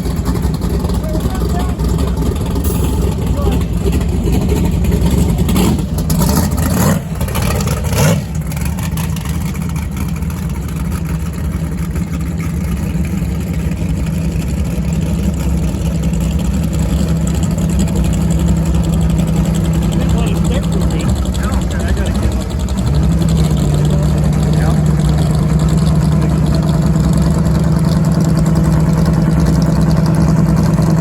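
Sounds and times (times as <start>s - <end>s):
jet boat engine running: 0.0s - 31.0s.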